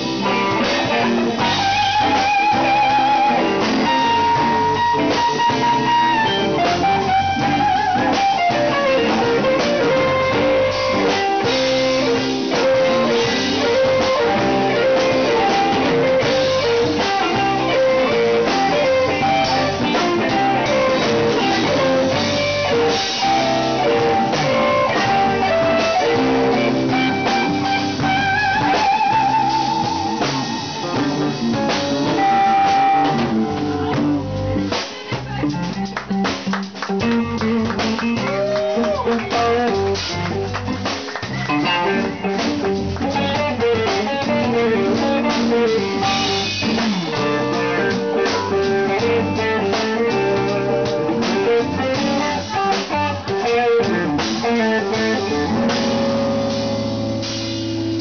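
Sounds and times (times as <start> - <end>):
blues band playing: 0.0 - 58.0
electric guitar lead line: 0.0 - 58.0.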